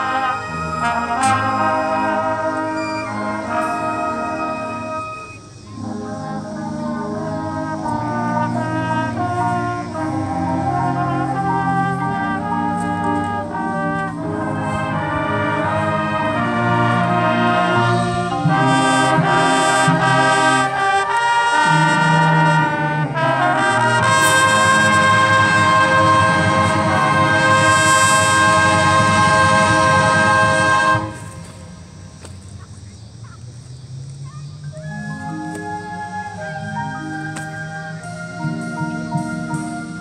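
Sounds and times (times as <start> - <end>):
marching band playing: 0.0 - 32.2, 34.8 - 40.0.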